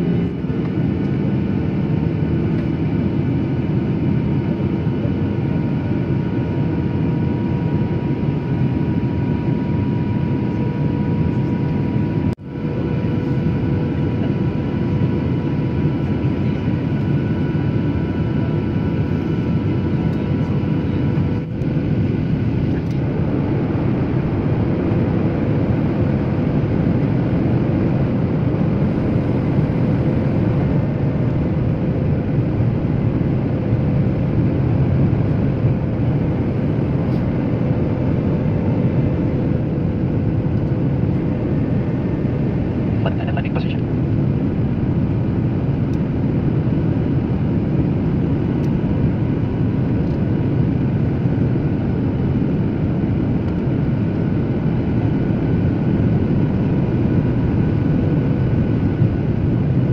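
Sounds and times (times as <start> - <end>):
faint steady whine: 0.0 - 59.9
jet engine and airflow rush: 0.0 - 59.9.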